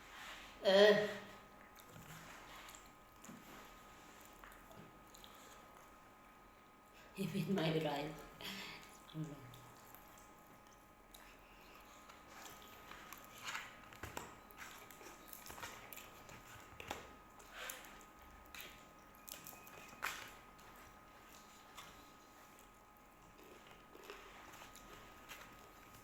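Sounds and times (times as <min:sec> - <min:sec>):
chewing food: 0:01.5 - 0:06.1, 0:08.2 - 0:26.0.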